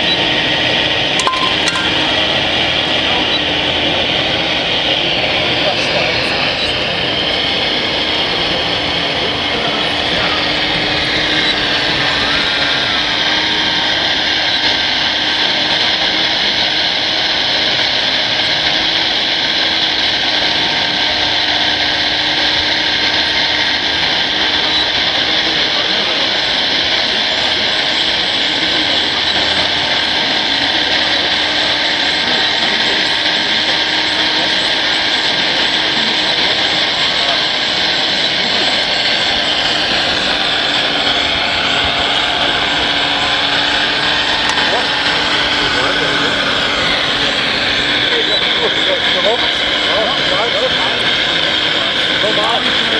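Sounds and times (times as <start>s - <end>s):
background chatter: 0.0s - 52.9s
electric motors whirring: 0.0s - 52.9s.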